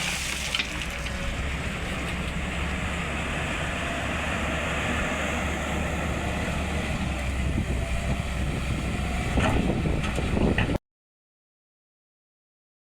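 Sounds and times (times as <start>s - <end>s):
diesel engine droning: 0.0s - 10.8s.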